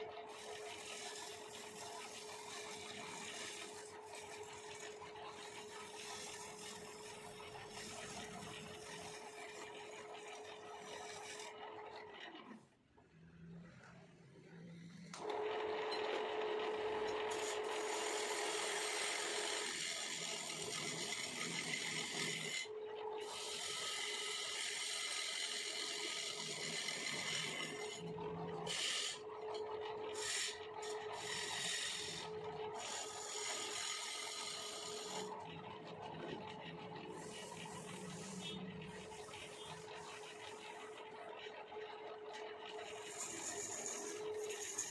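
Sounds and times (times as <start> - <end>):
tool scraping spinning wood: 0.1 - 12.6, 14.8 - 41.6, 42.3 - 44.9
lathe humming: 0.3 - 11.6, 15.2 - 41.6, 42.3 - 44.9.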